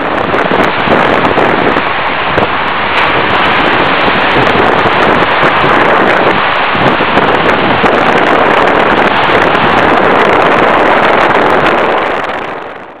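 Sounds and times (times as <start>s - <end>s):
sea: 0.0s - 13.0s
strong wind buffeting microphone: 0.0s - 13.0s.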